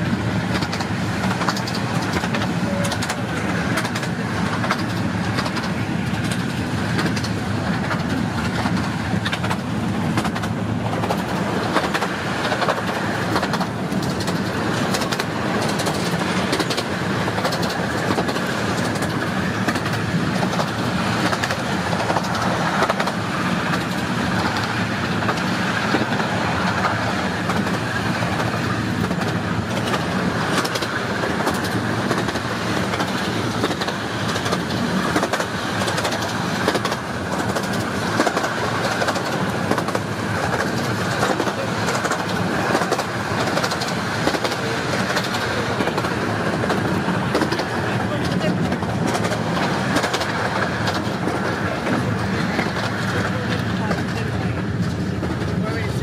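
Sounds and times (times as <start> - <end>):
train running on track: 0.0 - 56.0
wheel-and-rail clicks: 0.5 - 55.9.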